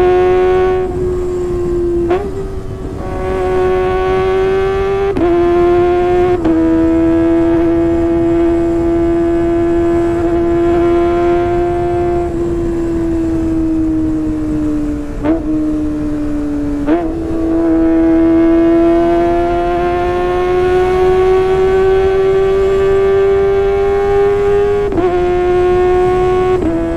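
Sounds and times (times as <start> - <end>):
engine blips: 0.0 - 26.9
motorcycle engine running: 0.0 - 26.9.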